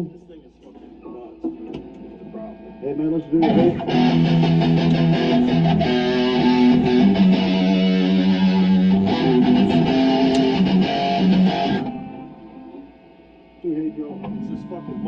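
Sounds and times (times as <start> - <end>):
fuzz electric guitar chords: 1.4 - 15.0.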